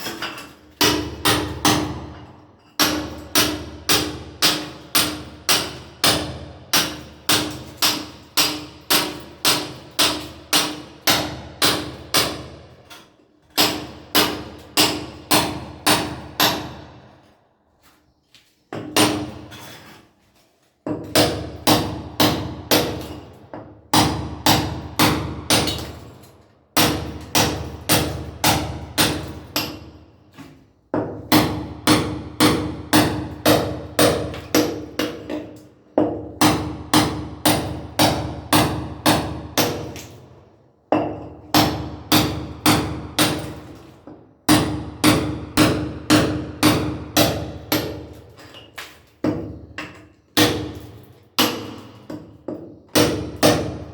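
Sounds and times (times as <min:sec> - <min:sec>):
sledgehammer striking steel chisel: 0:00.0 - 0:17.1, 0:18.8 - 0:20.0, 0:20.8 - 0:40.2, 0:40.9 - 0:53.9.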